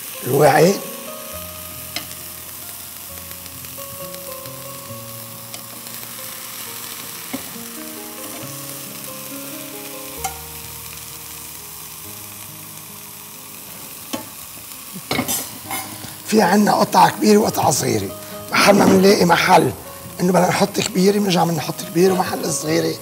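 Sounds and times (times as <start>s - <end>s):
slices sizzling in hot oil: 0.0s - 23.0s
soft background music: 0.0s - 23.0s.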